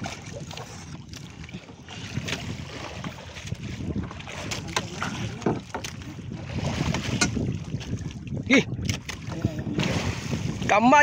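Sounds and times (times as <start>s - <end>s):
water sloshing along hull: 0.0s - 11.0s
wind buffeting microphone: 0.0s - 11.0s.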